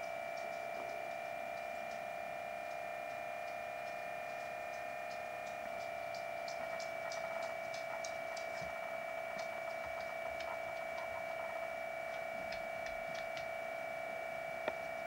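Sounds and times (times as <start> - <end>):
faint ticks: 0.0 - 13.6
high-pitched electronic hum: 0.0 - 15.0.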